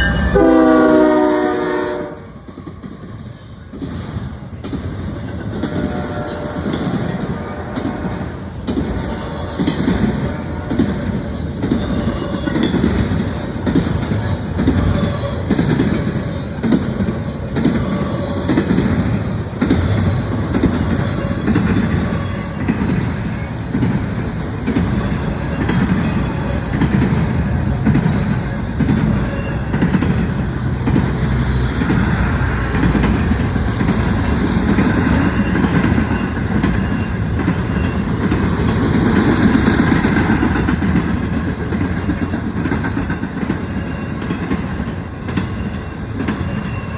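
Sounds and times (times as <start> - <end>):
freight train rumbling: 0.0 - 46.9
train wheels clicking on rails: 0.0 - 46.9.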